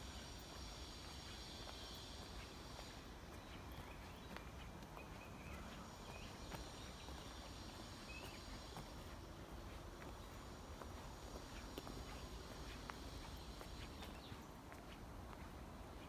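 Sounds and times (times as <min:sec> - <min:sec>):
footsteps on forest floor: 0:00.1 - 0:15.6.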